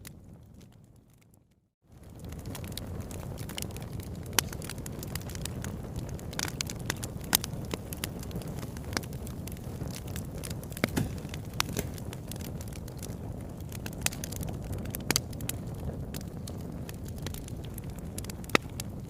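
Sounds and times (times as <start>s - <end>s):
fire popping and crackling: 0.0s - 19.0s
fire rumbling: 0.0s - 19.0s.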